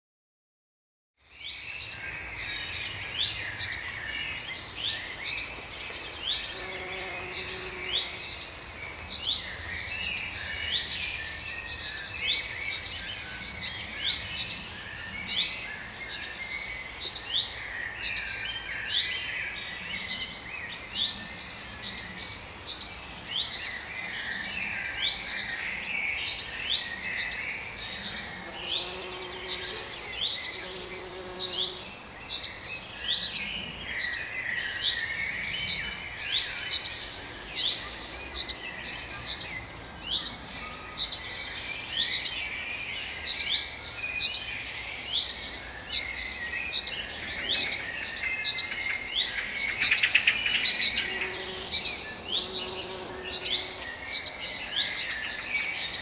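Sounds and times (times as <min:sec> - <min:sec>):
birds chirping and trilling: 0:01.4 - 0:56.0.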